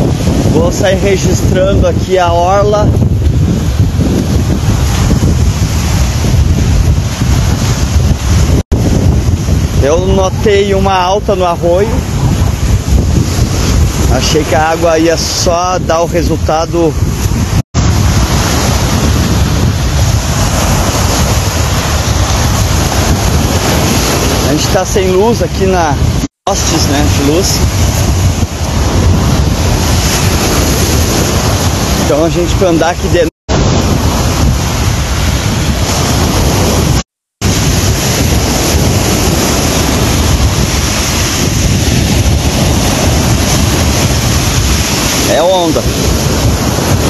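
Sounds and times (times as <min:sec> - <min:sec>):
waves breaking on shore: 0:00.0 - 0:47.0
wind buffeting microphone: 0:00.0 - 0:47.0.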